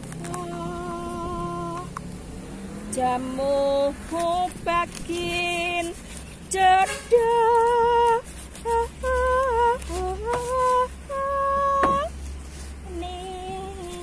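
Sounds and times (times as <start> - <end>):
woman singing unaccompanied: 0.0 - 2.0, 2.9 - 12.2, 12.8 - 14.0
low steady hum: 0.0 - 14.0.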